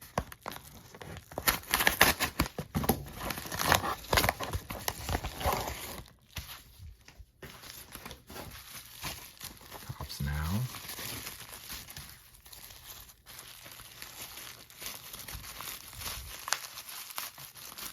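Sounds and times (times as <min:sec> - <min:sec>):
package being torn open: 0:00.0 - 0:06.2, 0:08.8 - 0:17.9
wrapping crinkling: 0:00.0 - 0:17.9.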